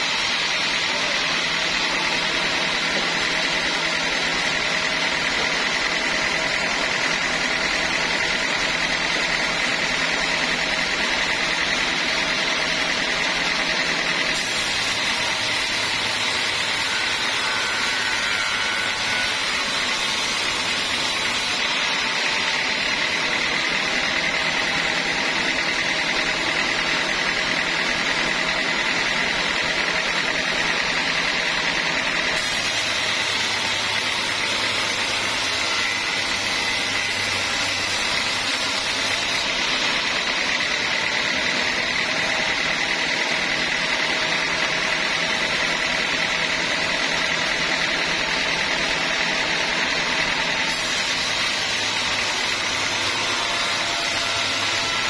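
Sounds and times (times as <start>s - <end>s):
band sawmill sawing log: 0.0s - 55.0s.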